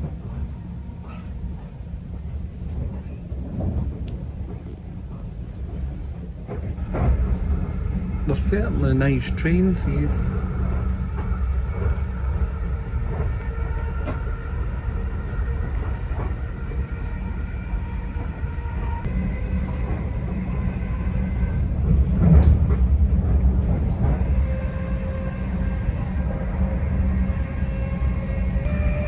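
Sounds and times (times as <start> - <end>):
train cabin low rumble: 0.0 - 29.0.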